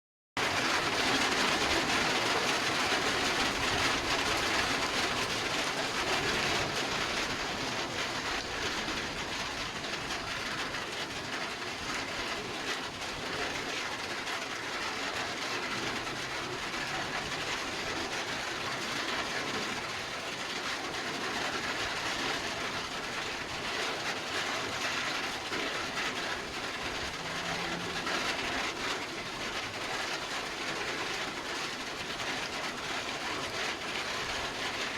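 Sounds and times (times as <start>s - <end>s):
heavy rain with strong wind: 0.4s - 34.9s.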